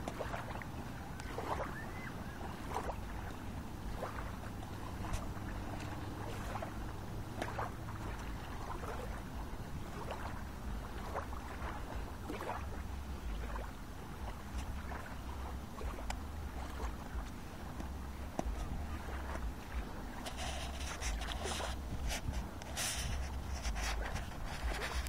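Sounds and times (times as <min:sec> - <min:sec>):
water lapping and splashing: 0:00.0 - 0:25.0
wind rumbling on microphone: 0:00.0 - 0:25.0.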